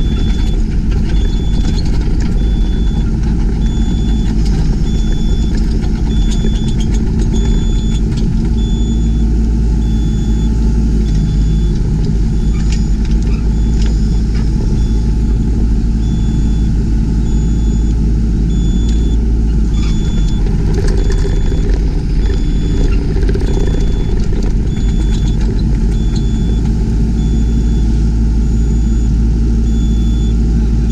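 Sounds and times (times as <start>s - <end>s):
high electronic beeps: 0.0s - 15.2s, 18.5s - 29.1s
excavator diesel engine running: 0.0s - 30.9s.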